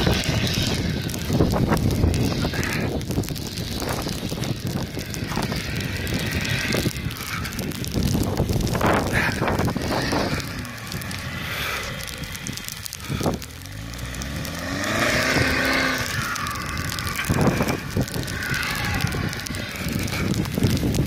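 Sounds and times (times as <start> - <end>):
diesel engine revving: 0.0 - 21.0
wind noise on microphone: 0.0 - 21.0.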